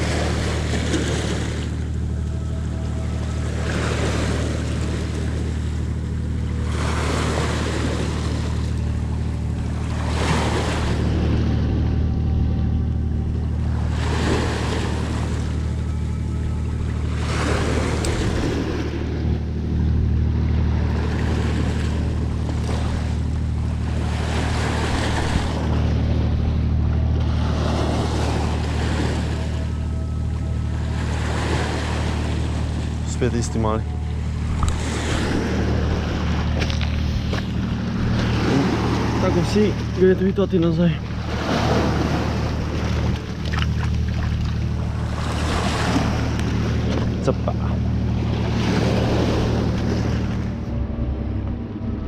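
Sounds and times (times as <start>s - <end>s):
low ship engine drone: 0.0s - 52.0s.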